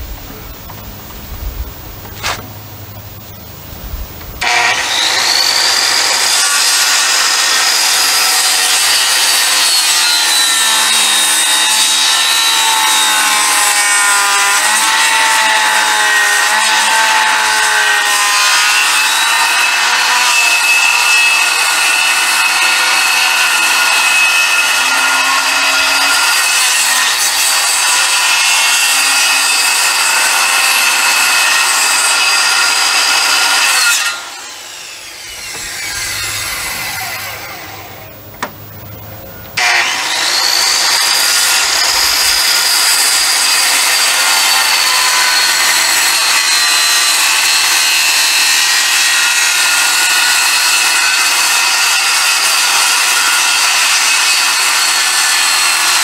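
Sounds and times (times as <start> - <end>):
circular saw cutting wood: 4.4 - 38.6, 39.6 - 56.0.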